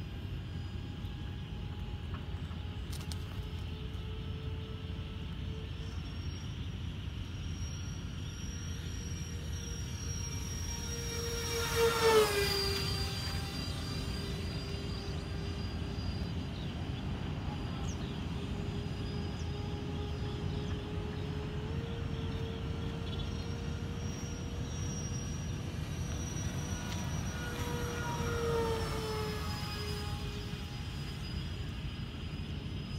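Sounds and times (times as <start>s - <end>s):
electric ducted fans whining: 0.0s - 32.9s.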